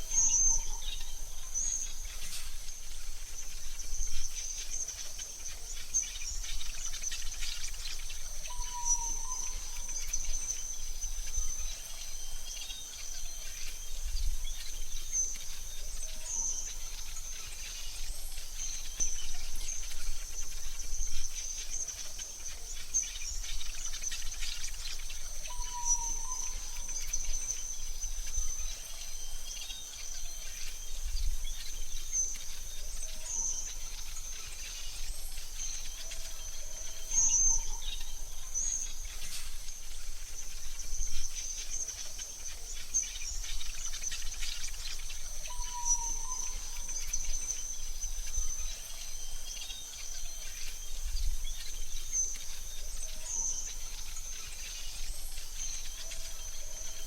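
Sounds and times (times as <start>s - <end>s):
bird chirps: 0.0s - 57.0s
high insect drone: 0.0s - 57.0s.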